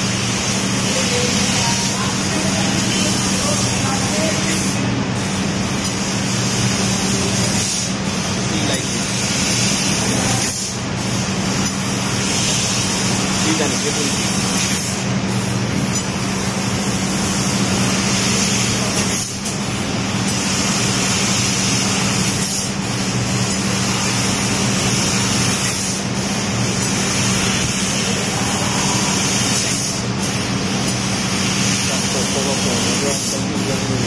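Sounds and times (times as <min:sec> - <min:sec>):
laser cutter gas hiss: 0:00.0 - 0:34.0
steady low hum: 0:00.0 - 0:34.0.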